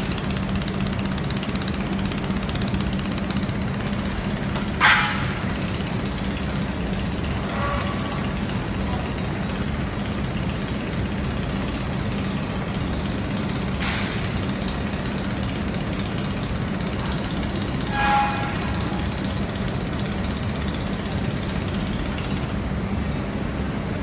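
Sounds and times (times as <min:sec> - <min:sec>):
laser welding machine humming: 0:00.0 - 0:24.0.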